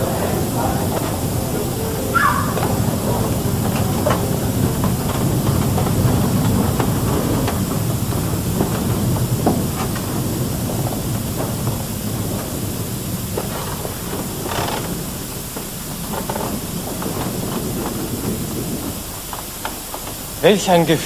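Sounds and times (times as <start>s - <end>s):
footsteps on wooden boards: 0.0s - 21.0s
steady low rumbling: 0.0s - 21.0s.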